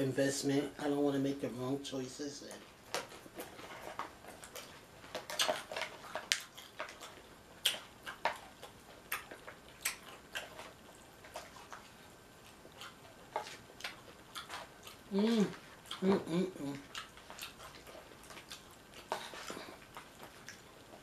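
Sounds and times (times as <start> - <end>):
tortilla chips crunching: 2.5 - 21.0.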